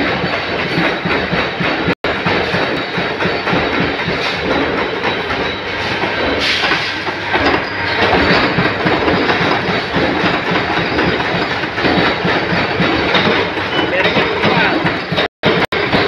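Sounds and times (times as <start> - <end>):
punch presses stamping clatter: 0.0 - 16.0.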